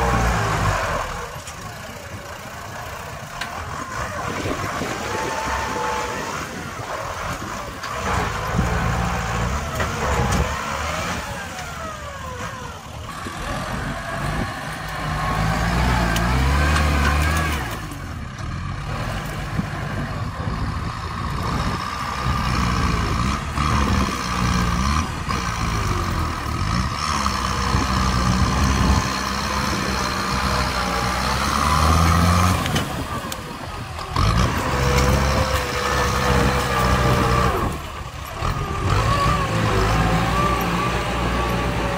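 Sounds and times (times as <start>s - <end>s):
tractor diesel engine working hard: 0.0s - 41.9s
blade pushing soil and brush: 3.3s - 20.8s, 21.4s - 41.9s.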